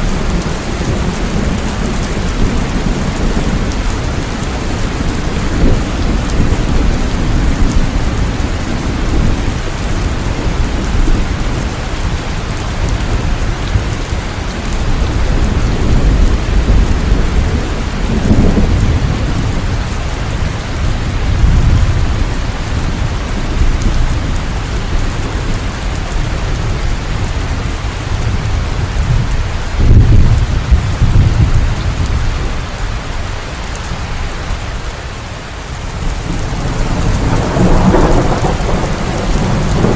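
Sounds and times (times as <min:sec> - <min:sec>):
thunder rumbling: 0:00.0 - 0:34.1, 0:35.8 - 0:39.9
heavy rain falling: 0:00.0 - 0:39.9.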